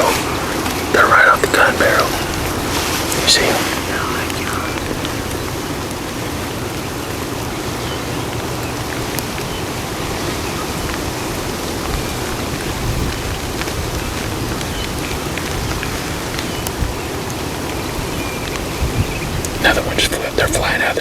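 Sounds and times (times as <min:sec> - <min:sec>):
rain falling: 0:00.0 - 0:21.0
drop ticks: 0:00.1 - 0:06.8, 0:10.8 - 0:21.0.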